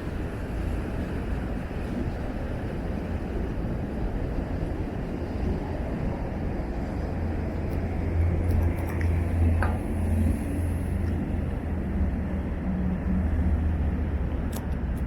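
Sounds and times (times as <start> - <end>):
ferry diesel engine rumble: 0.0 - 15.0.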